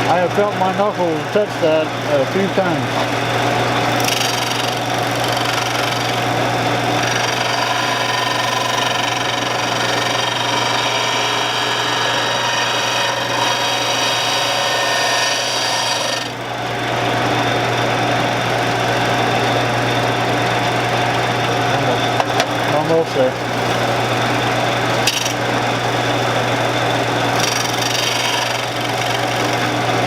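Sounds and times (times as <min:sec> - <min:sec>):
motor hum: 0:00.0 - 0:30.0.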